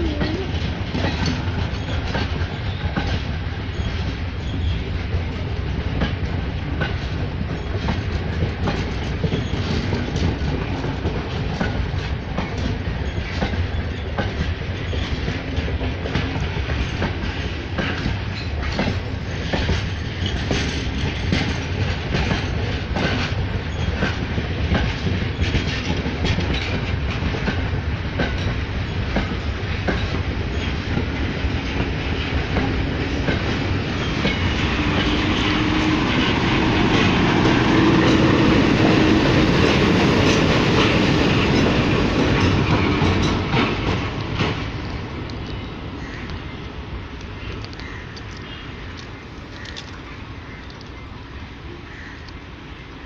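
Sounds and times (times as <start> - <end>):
train wheels clicking over rail joints: 0.0 - 52.7
diesel locomotive engine: 0.0 - 53.0.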